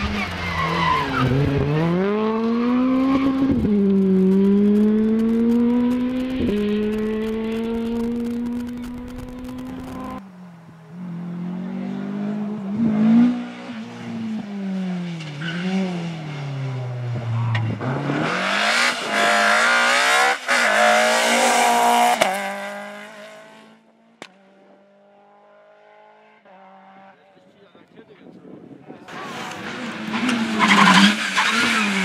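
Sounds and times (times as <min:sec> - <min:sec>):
rally car engine revving: 0:00.0 - 0:10.2, 0:10.8 - 0:27.2, 0:28.9 - 0:32.0.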